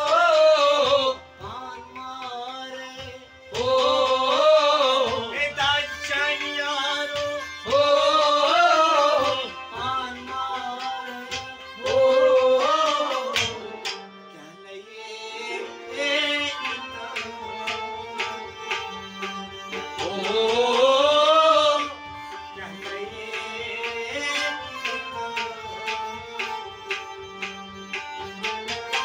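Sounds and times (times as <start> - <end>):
man singing: 0.0 - 18.4, 20.0 - 26.1
harmonium: 0.0 - 29.0.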